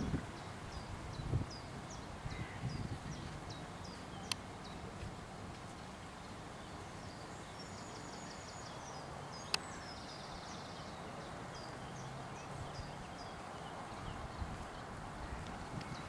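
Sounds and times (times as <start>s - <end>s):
small birds chirping: 0.0s - 5.0s, 5.7s - 16.0s
background hiss: 0.0s - 16.0s.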